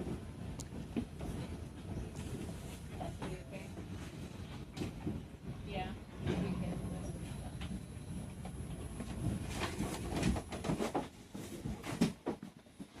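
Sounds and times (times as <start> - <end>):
subway car rumble: 0.0 - 11.7.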